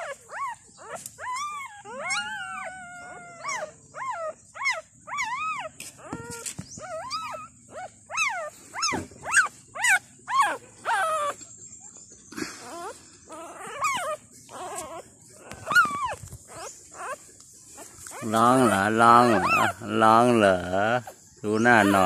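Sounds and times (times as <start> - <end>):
puppies crying: 0.0 - 22.0.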